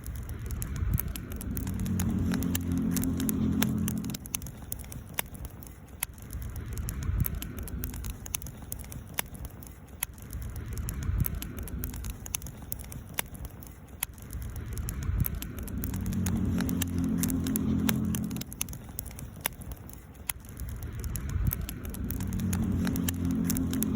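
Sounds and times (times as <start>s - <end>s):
campfire crackling: 0.0s - 23.9s
fire pops and snaps: 0.0s - 23.9s.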